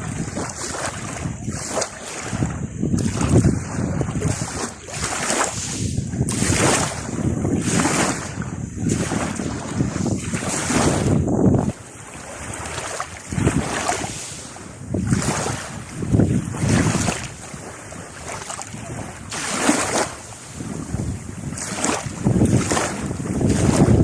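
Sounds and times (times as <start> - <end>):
sea waves splashing: 0.0 - 24.0
wind buffeting microphone: 0.0 - 24.0.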